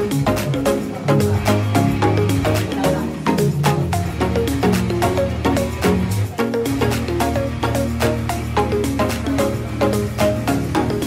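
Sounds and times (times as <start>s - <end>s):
plucked notes over bass line: 0.0s - 11.0s.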